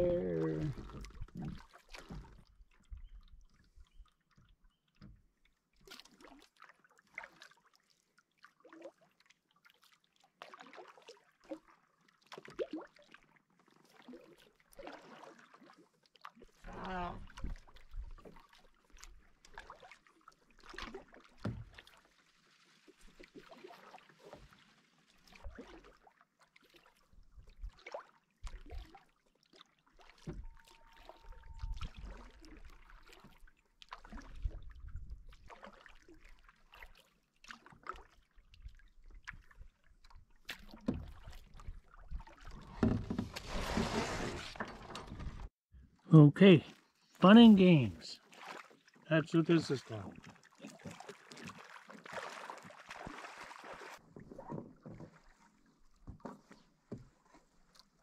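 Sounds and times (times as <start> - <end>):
water lapping at hull: 0.0 - 46.0, 46.6 - 58.0
paddles splashing in water: 8.6 - 45.6, 46.7 - 58.0.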